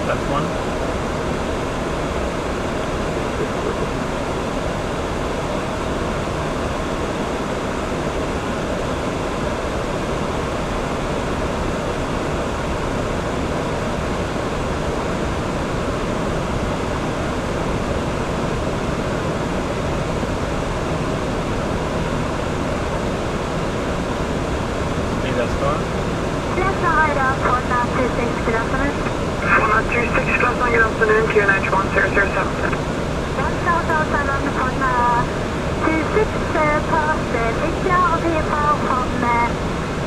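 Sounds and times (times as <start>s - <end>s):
aircraft cockpit rushing noise: 0.0s - 40.0s.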